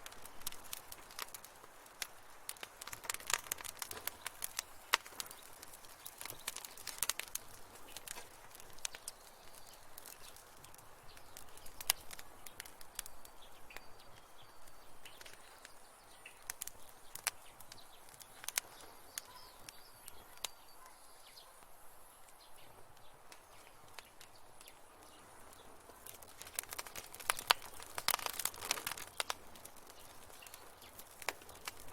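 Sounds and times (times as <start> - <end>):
sharp pops and snaps: 0.0 - 21.4, 22.2 - 31.9
wood fire crackling: 0.0 - 31.9.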